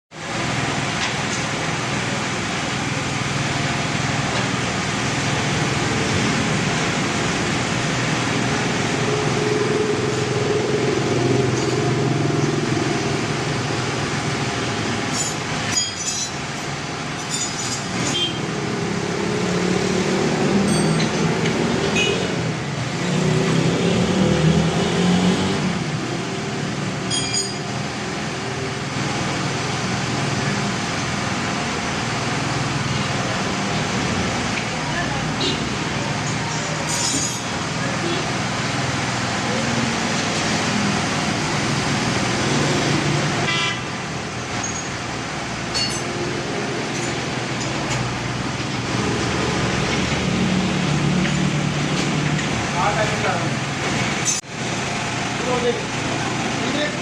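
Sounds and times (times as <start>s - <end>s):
vehicle engine and road noise: 0.1s - 57.0s.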